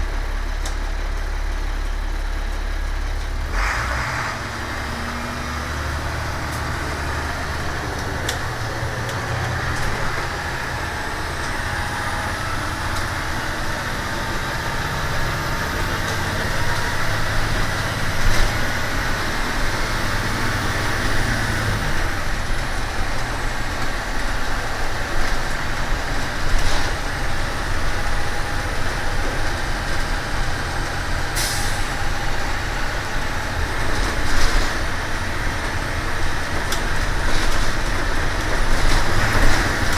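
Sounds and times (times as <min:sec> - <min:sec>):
bus diesel engine running: 0:00.0 - 0:39.9
road and wind noise: 0:00.0 - 0:39.9.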